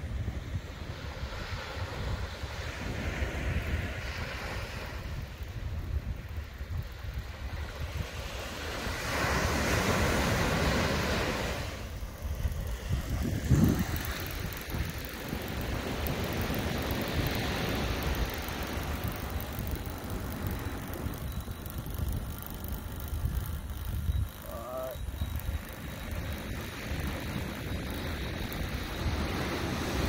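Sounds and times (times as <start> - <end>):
wind on microphone: 0.0 - 30.0.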